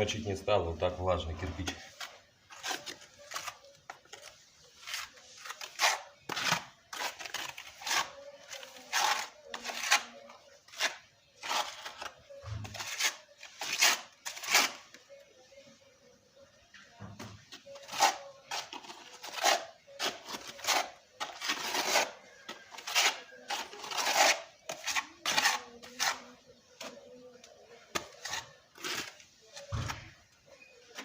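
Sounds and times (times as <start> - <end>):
trowel scraping mortar: 1.3 - 15.0, 17.5 - 27.0, 27.8 - 30.0.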